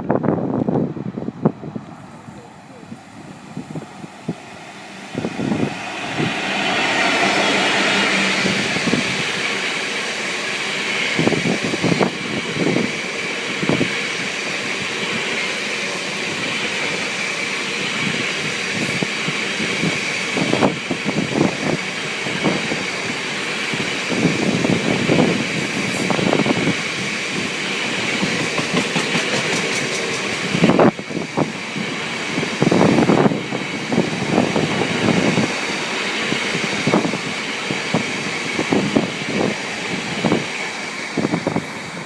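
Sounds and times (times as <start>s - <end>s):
train rolling past: 0.0s - 42.0s.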